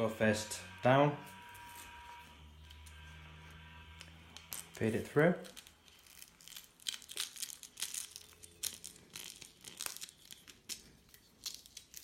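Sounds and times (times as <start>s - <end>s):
velcro strap scraping and rustling: 1.2s - 12.0s.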